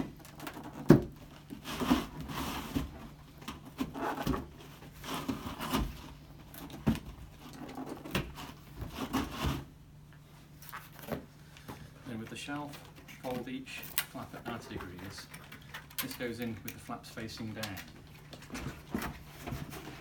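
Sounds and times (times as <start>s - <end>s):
cardboard rustling: 0.0s - 20.0s.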